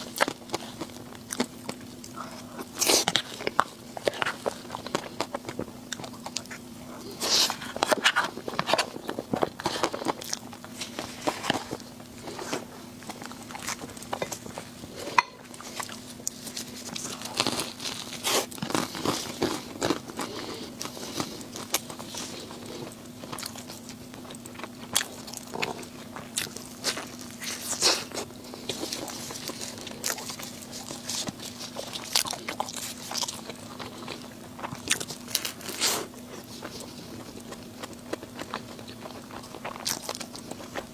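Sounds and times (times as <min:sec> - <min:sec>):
crunchy bites and chewing: 0:00.0 - 0:40.9
faint steady hum: 0:00.0 - 0:40.9.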